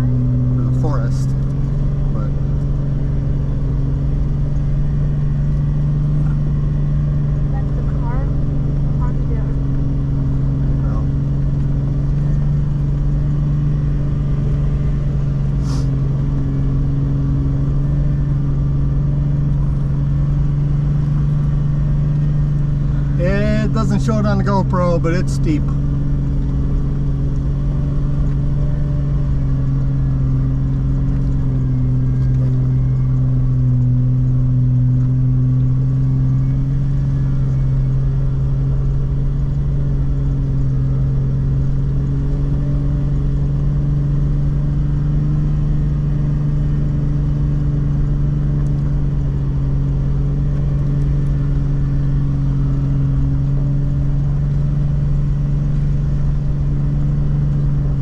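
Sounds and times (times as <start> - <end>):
drivetrain and road rumble: 0.0 - 58.0
engine pulling at low revs: 0.0 - 58.0.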